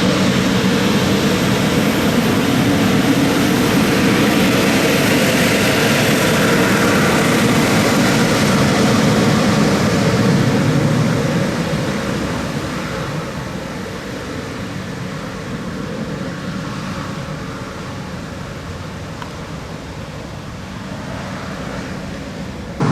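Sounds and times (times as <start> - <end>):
jet engines at takeoff: 0.0 - 22.9.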